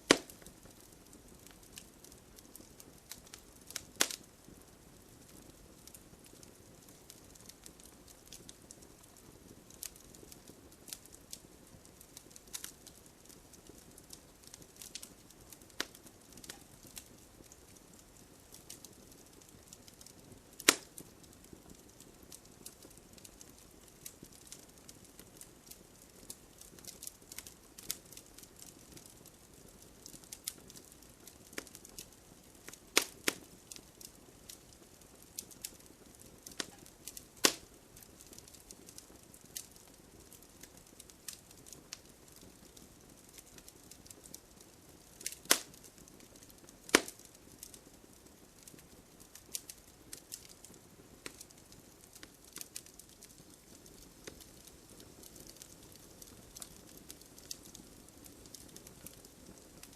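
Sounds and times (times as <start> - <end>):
loud sharp pops of fire: 0.0 - 59.9
wood fire crackling: 0.0 - 59.9.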